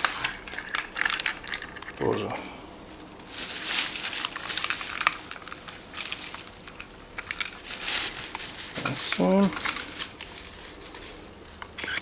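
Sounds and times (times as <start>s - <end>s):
vegetables rustling and crinkling: 0.0s - 12.0s.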